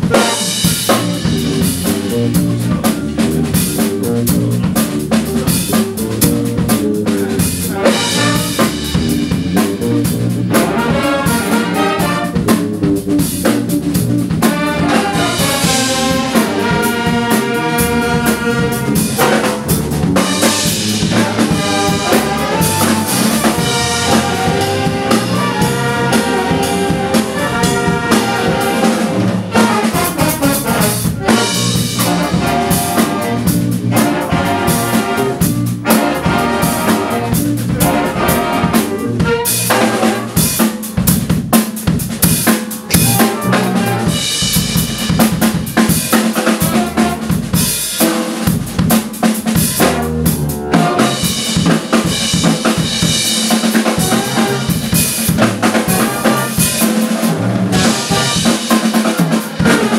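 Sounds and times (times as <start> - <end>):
big band playing jazz-funk: 0.0 - 59.9
drum kit with rim shots: 0.0 - 59.9.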